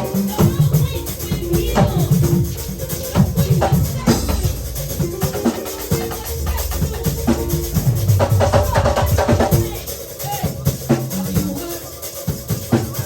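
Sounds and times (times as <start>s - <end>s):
bass line: 0.0s - 11.8s
drum kit beating: 0.0s - 13.0s
held chords: 0.0s - 13.0s.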